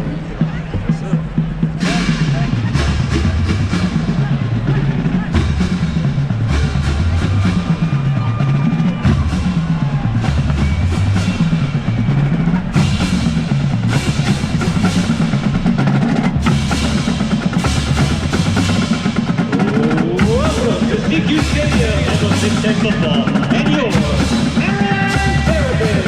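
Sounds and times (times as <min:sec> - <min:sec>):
bass drums: 0:00.0 - 0:26.0
snare drums rolling: 0:00.8 - 0:26.0.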